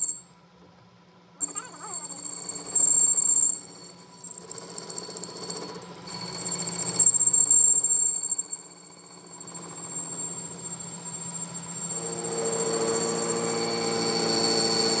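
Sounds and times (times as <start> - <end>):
workshop machine whining: 1.4 - 15.0.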